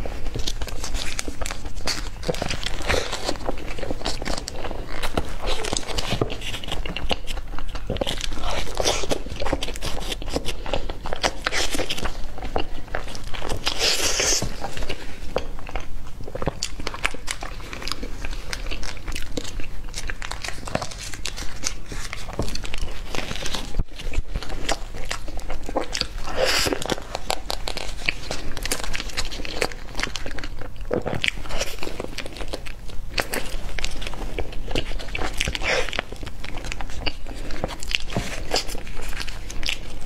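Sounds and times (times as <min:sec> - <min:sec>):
biting and chewing soft cake: 0:00.0 - 0:40.0.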